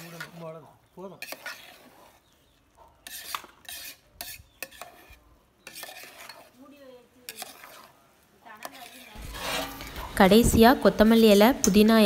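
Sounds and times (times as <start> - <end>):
metal ladle scraping pot: 0.0 - 8.0, 8.6 - 10.7.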